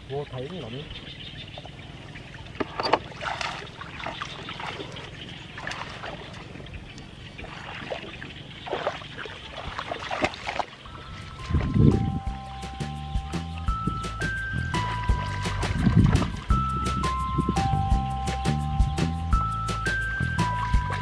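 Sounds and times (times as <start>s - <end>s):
water splashing and sloshing: 0.4s - 21.0s.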